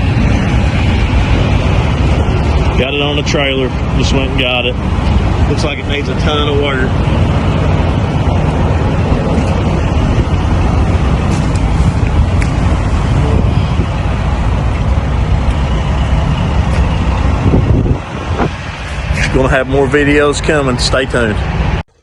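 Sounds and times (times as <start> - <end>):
vehicle rumbling towing trailer: 0.0 - 22.0.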